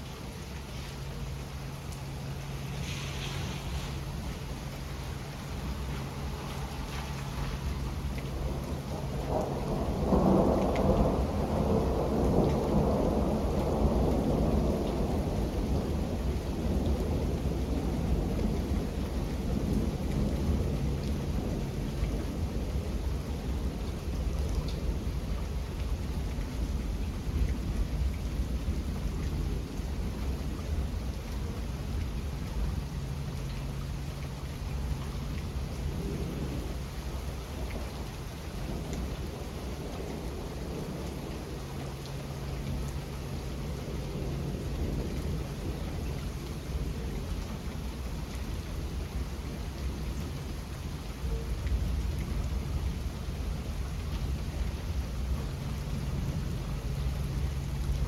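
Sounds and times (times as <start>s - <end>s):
steady rain falling: 0.0s - 58.0s
thunder rumble: 0.0s - 58.0s.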